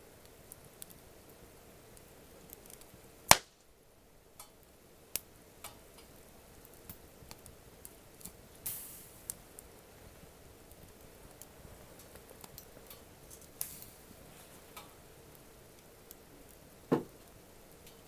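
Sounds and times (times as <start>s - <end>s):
campfire crackling and popping: 0.0s - 18.0s
fire hissing: 0.0s - 18.0s.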